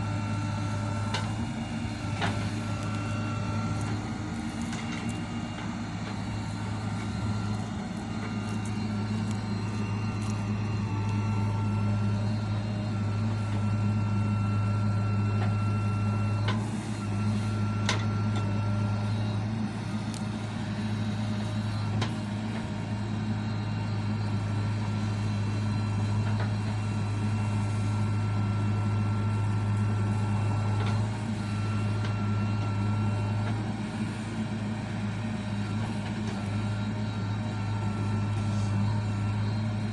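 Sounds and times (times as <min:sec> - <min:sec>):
diesel engine running: 0:00.0 - 0:39.9
thin whine: 0:00.0 - 0:39.9.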